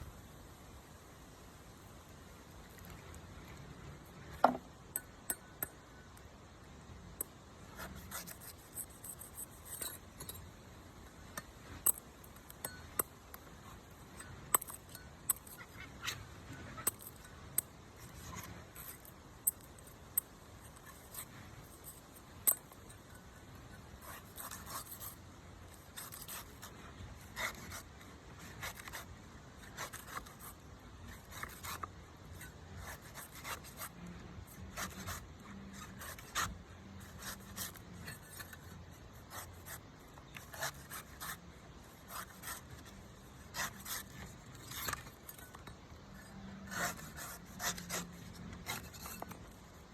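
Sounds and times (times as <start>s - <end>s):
knife scraping coconut: 7.2s - 10.6s, 11.3s - 49.9s.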